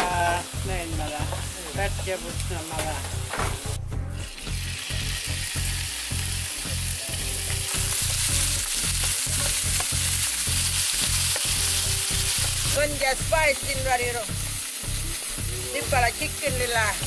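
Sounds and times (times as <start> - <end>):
chicken sizzling in a frypan: 0.0 - 17.0.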